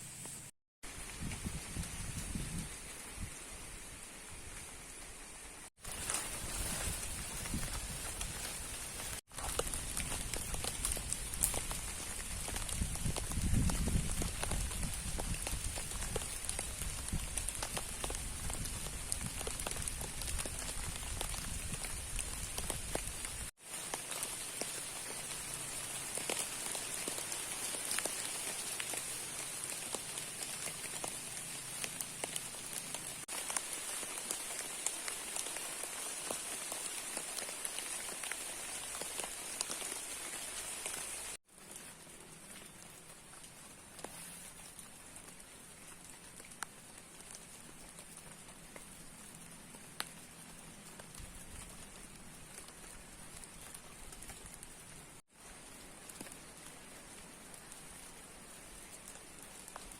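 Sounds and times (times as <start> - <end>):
heavy rain patter: 0.8 - 59.9.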